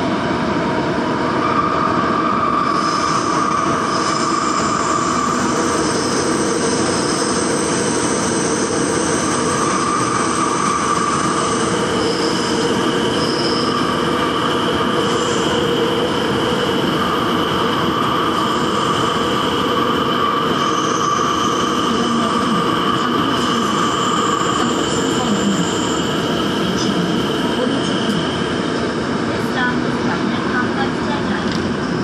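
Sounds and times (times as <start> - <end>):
subway train wheels on rails: 0.0 - 32.0
high squealing tones: 1.5 - 28.7.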